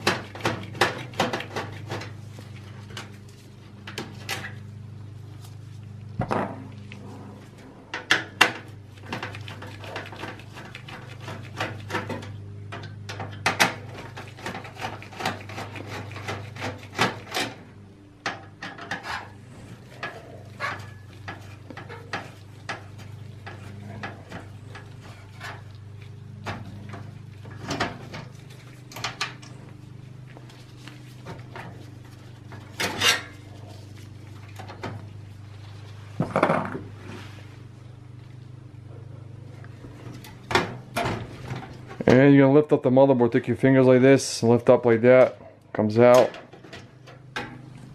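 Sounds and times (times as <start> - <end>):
low hum: 0.0 - 44.6.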